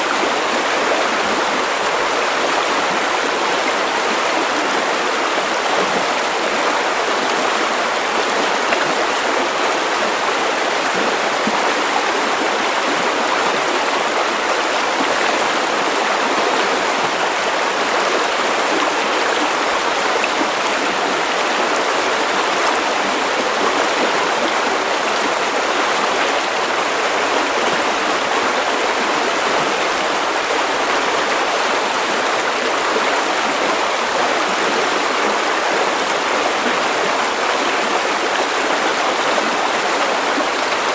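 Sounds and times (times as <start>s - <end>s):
river water over stones: 0.0s - 40.9s.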